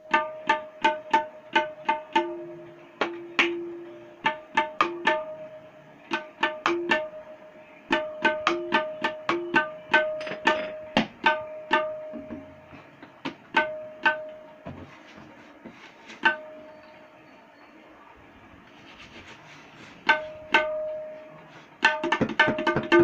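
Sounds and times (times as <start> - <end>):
ringing tabla strokes: 0.0 - 15.0, 16.2 - 17.8, 20.0 - 23.0.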